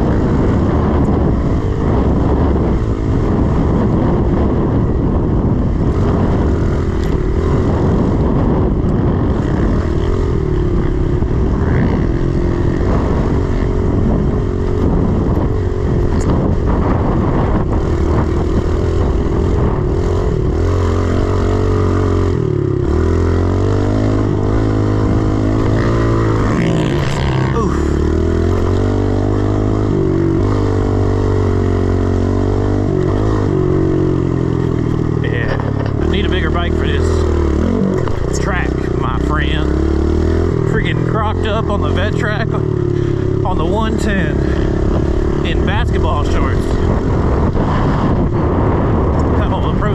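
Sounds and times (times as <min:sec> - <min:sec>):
pit bike engine revving: 0:00.0 - 0:49.9
wind noise on microphone: 0:00.0 - 0:49.9.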